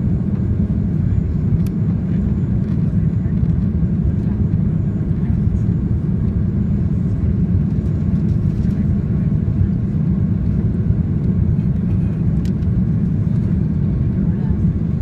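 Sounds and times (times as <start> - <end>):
jet engine rumble and rushing air: 0.0 - 15.0.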